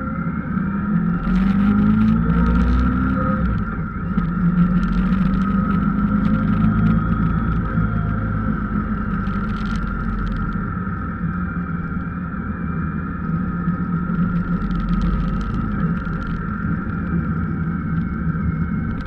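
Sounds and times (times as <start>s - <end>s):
road noise: 0.0s - 19.0s
vehicle engine running: 0.0s - 19.0s.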